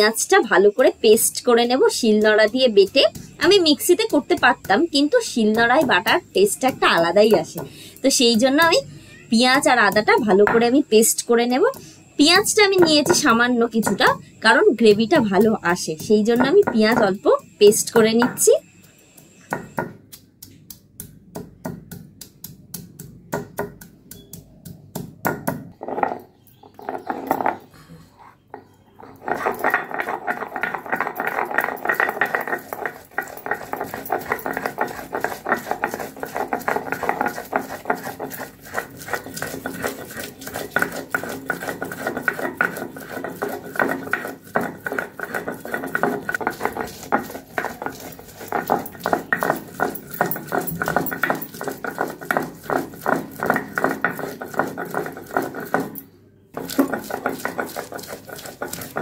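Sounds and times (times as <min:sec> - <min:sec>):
stone roller knocking: 0:00.0 - 0:27.7, 0:28.5 - 0:59.0
stone grinding on stone: 0:00.0 - 0:59.0.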